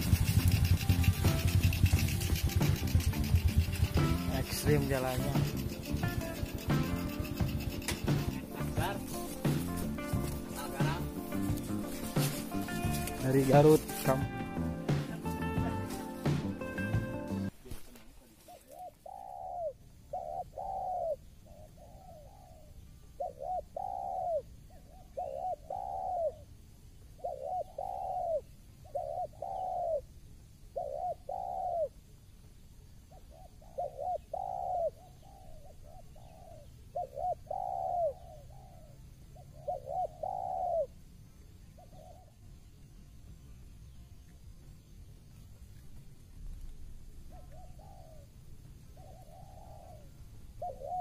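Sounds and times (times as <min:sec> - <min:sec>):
dove cooing: 0:00.0 - 0:32.1, 0:33.0 - 0:42.7, 0:46.4 - 0:51.0.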